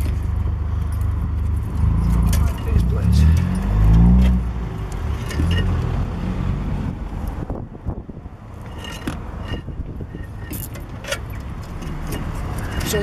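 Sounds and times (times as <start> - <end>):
brake caliper clicks and rattles: 0.0 - 6.0, 8.5 - 13.0.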